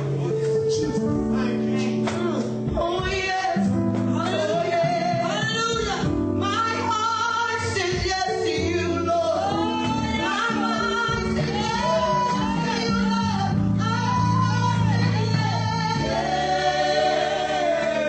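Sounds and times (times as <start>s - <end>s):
gospel group singing: 0.0s - 18.0s
low instrumental accompaniment: 0.0s - 18.0s.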